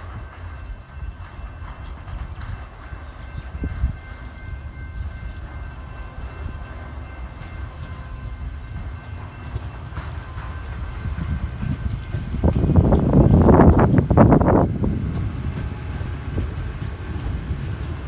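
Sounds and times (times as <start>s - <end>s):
train approaching rumble: 0.0s - 18.0s.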